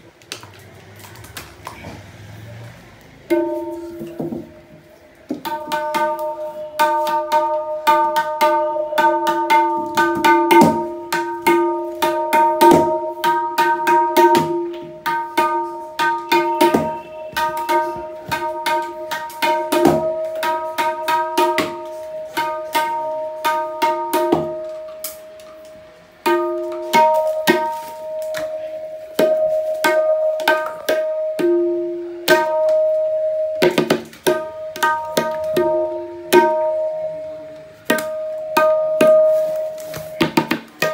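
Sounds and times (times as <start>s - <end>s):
tabla drum strokes: 0.8s - 40.9s.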